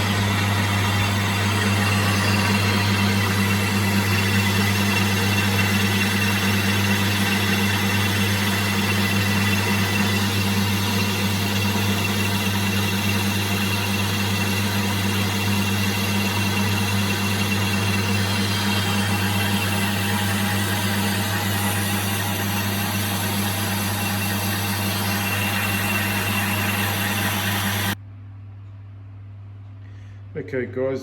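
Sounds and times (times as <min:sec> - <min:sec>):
lathe cutting cast iron: 0:00.0 - 0:28.0
metal lathe motor hum: 0:00.0 - 0:28.0.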